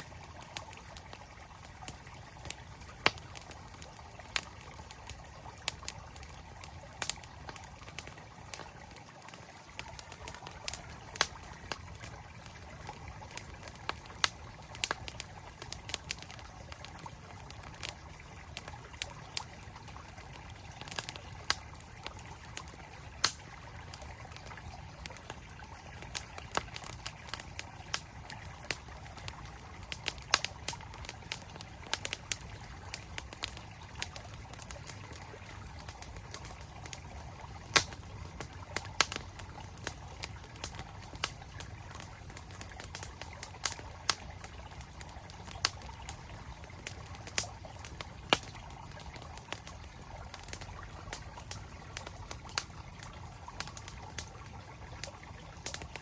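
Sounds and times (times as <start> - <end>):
campfire crackling and popping: 0.0 - 56.0.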